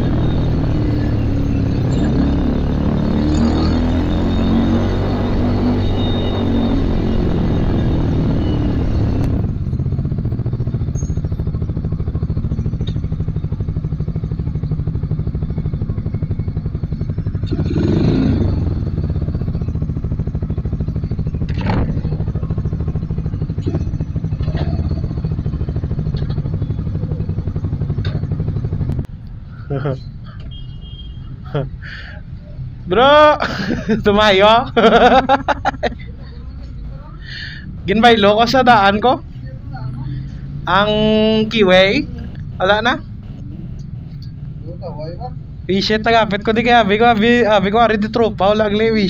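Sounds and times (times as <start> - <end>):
motorcycle engine idling: 5.8 - 49.0.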